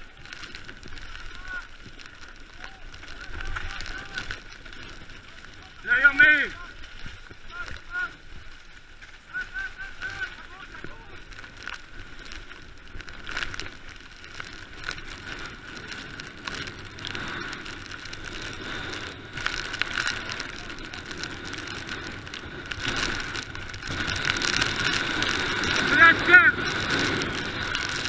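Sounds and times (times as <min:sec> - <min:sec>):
bike rattling over bumps: 0:00.0 - 0:28.0
bike tyres on dirt: 0:00.0 - 0:28.0.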